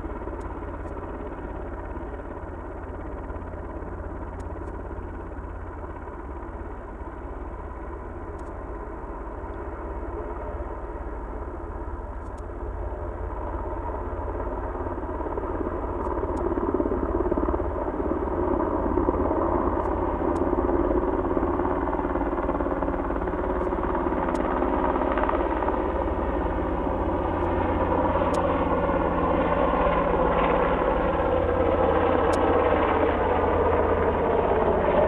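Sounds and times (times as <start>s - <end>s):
helicopter engines and rotor drone: 0.0s - 35.0s.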